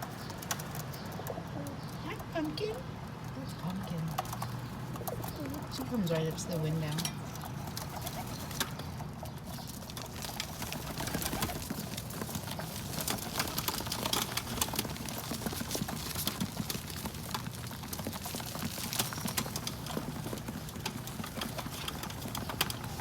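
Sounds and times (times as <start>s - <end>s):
pigeons pecking seeds: 0.0s - 23.0s.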